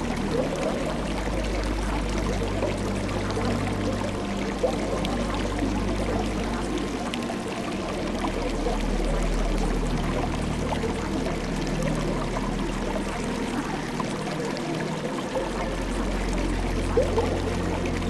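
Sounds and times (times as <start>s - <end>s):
low drone tones: 0.0s - 18.0s
running water rushing: 0.0s - 18.0s.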